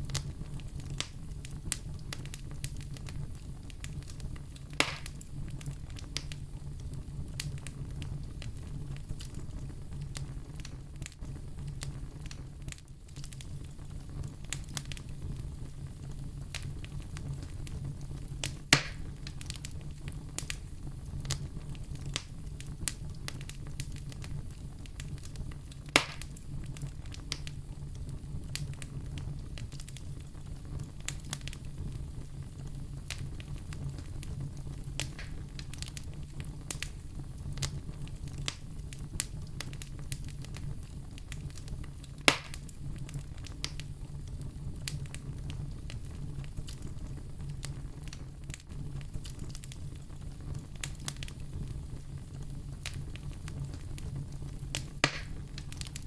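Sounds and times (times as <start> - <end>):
fire popping loudly: 0.0 - 56.0
wood fire crackling in fireplace: 0.0 - 56.0.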